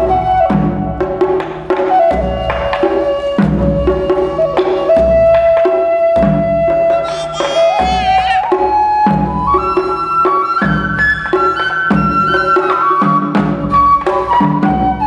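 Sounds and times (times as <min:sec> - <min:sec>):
bamboo flute long notes: 0:00.0 - 0:15.0.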